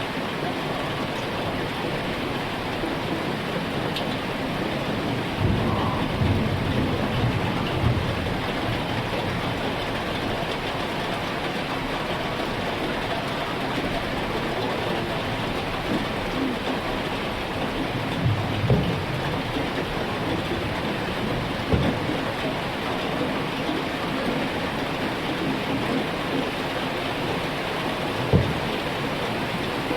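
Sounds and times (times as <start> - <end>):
heavy rain: 0.0 - 29.9
thunder rumbling: 4.2 - 13.1, 13.7 - 29.9.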